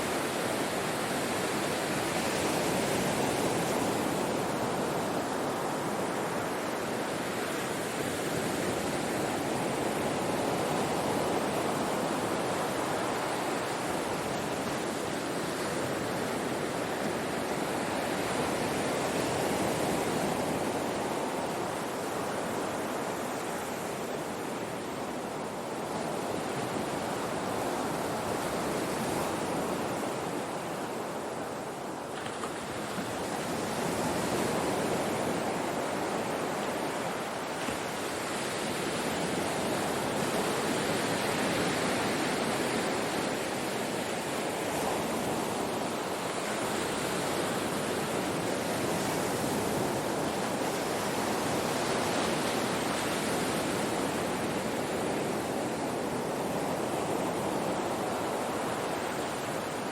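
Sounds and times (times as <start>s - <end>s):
ocean surf on shore: 0.0s - 59.9s.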